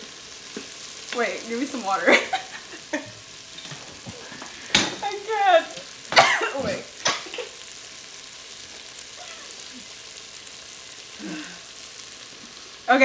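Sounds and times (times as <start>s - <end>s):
vegetables sizzling in a pot: 0.0s - 13.0s.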